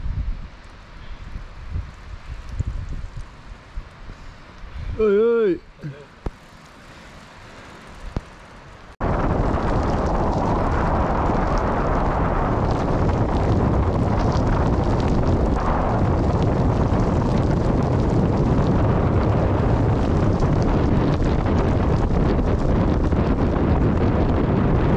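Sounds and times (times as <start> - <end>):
wind buffeting microphone: 0.0 - 5.4, 7.8 - 24.9.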